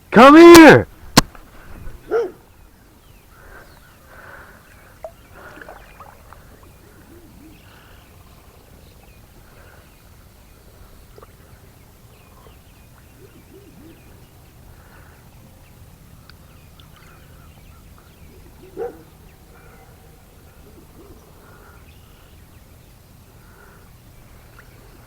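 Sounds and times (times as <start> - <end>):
faint waterside ambience: 0.0 - 25.0
wildlife calls and chirps: 1.6 - 25.0.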